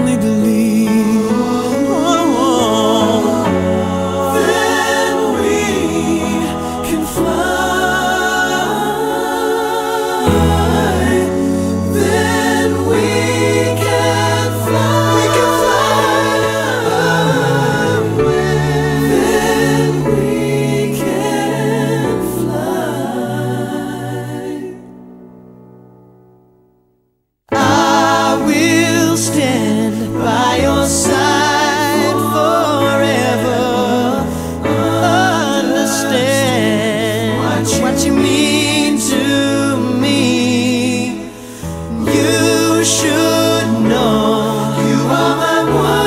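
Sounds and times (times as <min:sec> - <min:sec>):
pop backing track: 0:00.0 - 0:24.5, 0:27.5 - 0:46.0
male vocal group singing in harmony: 0:00.0 - 0:25.0, 0:27.5 - 0:46.0.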